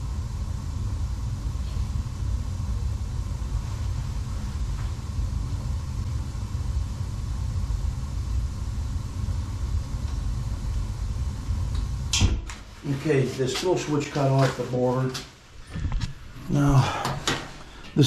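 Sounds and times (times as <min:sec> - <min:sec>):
faint constant hum: 0:00.0 - 0:18.0
gas burner rumbling: 0:00.0 - 0:18.0.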